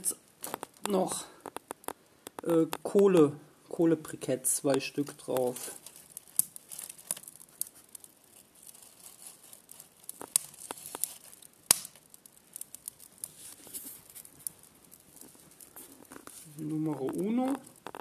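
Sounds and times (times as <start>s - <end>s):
sharp pops and clicks: 0.0s - 8.7s, 9.3s - 18.0s
kindling crackling in wood stove: 0.0s - 18.0s.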